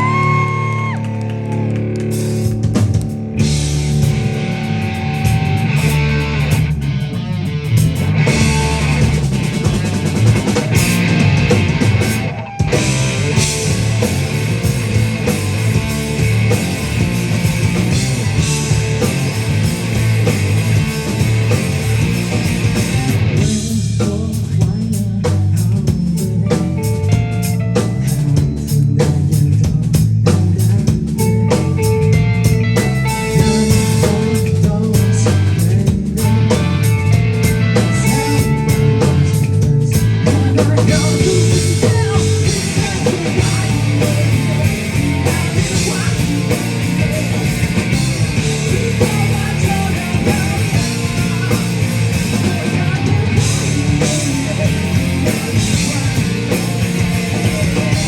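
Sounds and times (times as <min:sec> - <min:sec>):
live rock music: 0:00.0 - 0:58.0.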